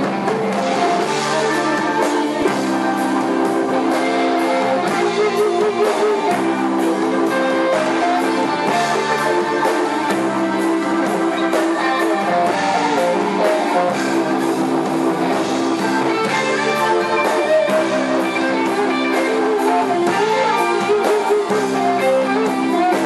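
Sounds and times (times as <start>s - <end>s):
distorted electric guitar chords: 0.0s - 23.0s
drums steady beat: 0.0s - 23.0s.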